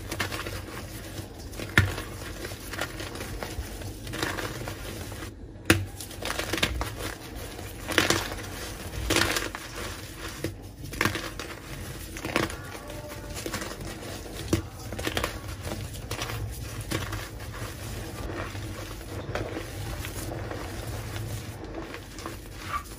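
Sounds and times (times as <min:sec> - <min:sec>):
chalk blocks crunching: 0:00.0 - 0:22.9.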